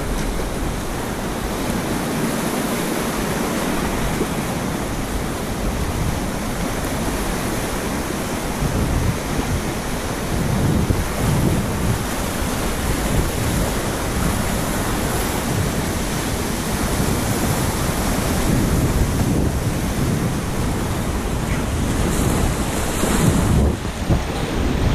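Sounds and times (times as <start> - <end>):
whitewater rapids rushing: 0.0 - 24.9.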